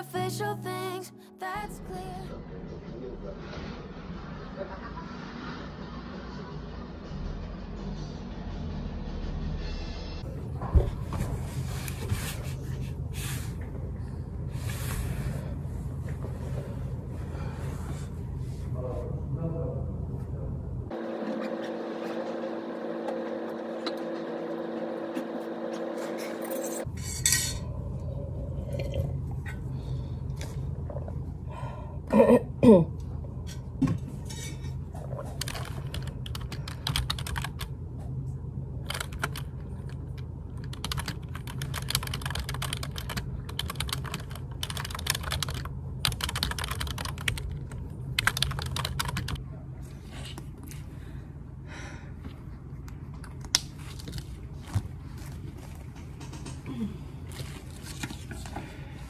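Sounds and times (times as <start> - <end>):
steady low hum: 5.9 - 59.0.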